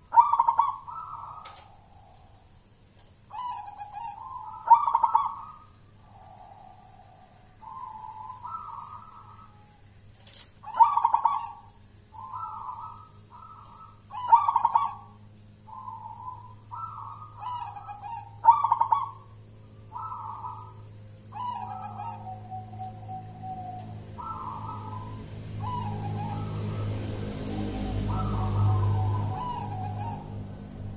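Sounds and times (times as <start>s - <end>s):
dove cooing: 0.0s - 2.6s, 3.3s - 30.9s.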